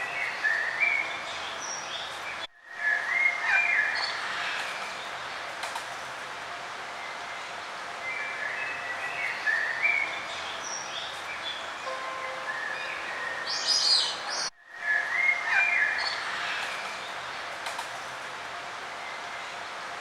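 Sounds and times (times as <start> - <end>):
songbirds singing: 0.0 - 5.5, 6.9 - 17.4
steady outdoor hiss: 0.0 - 20.0.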